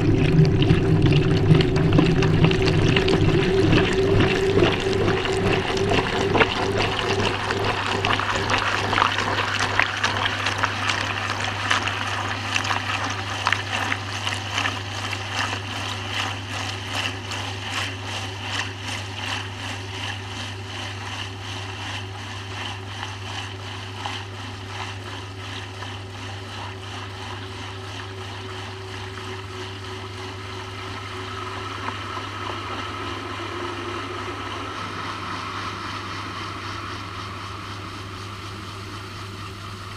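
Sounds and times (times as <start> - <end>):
water draining and trickling: 0.0 - 37.4
washing machine pump hum: 0.0 - 39.9.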